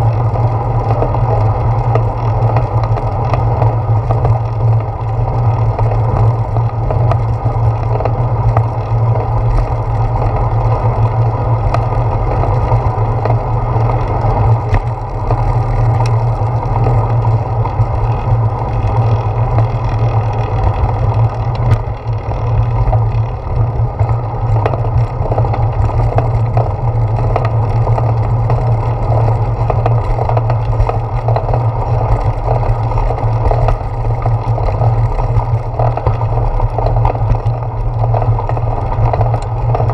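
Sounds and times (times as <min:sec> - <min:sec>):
bicycle rolling over pavement: 0:00.0 - 0:39.9
constant low hum: 0:00.0 - 0:39.9.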